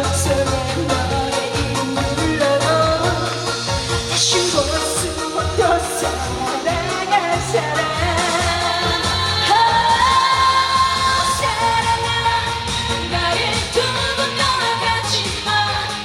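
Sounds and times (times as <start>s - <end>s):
band playing with steady beat: 0.0s - 16.0s
woman singing: 0.0s - 16.0s.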